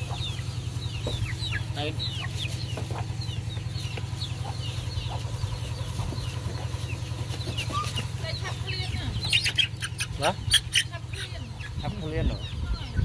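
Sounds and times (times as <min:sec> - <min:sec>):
chicken calling: 0:00.0 - 0:13.0
steady low hum: 0:00.0 - 0:13.0.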